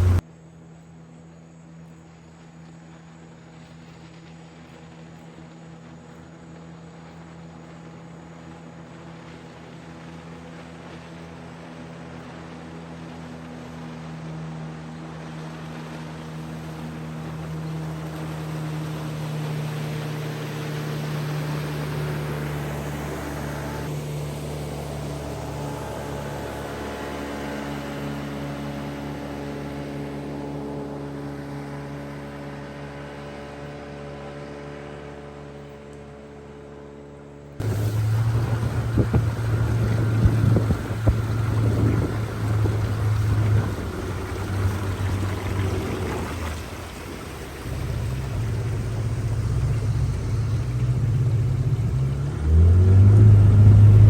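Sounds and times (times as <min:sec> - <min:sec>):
small boat motor droning: 0:00.0 - 0:54.0.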